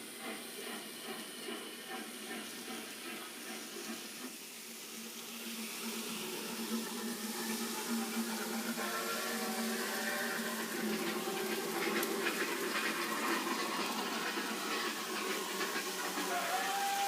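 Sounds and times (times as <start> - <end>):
hissing steam: 0.0 - 17.0.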